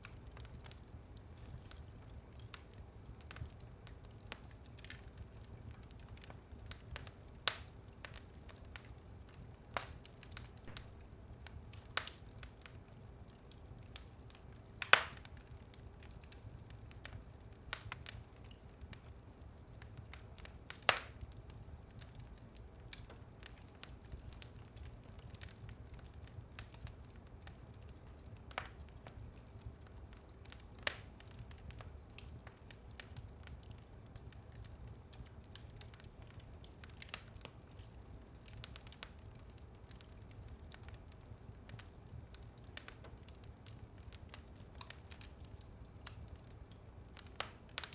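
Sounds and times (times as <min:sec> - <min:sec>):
fire crackles and pops: 0:00.0 - 0:47.9
fire flames rumbling: 0:00.1 - 0:47.9.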